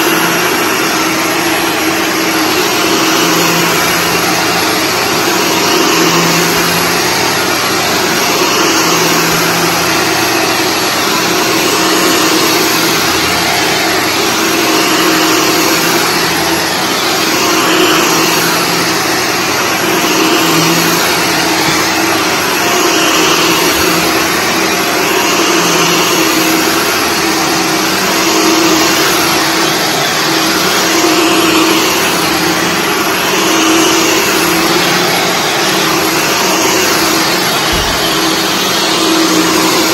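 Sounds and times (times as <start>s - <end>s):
upright vacuum cleaner whirring: 0.0s - 39.9s.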